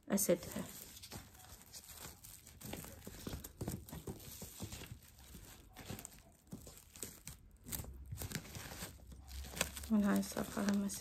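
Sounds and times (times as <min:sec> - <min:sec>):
plastic cling film crinkling: 0:00.0 - 0:11.0.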